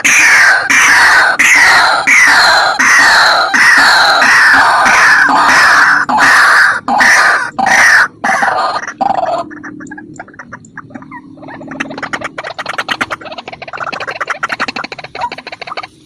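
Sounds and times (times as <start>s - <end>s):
bird chattering trill: 0.0s - 16.0s
bird harsh croaking cries: 0.0s - 16.0s.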